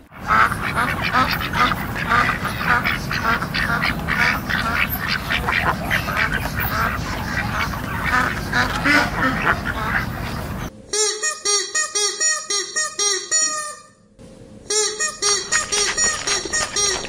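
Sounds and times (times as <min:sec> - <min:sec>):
flock of ducks quacking: 0:00.0 - 0:13.8, 0:14.7 - 0:17.0.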